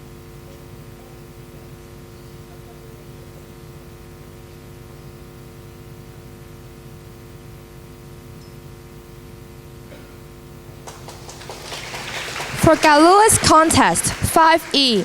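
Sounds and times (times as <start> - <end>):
electrical hum with hiss: 0.0 - 14.7.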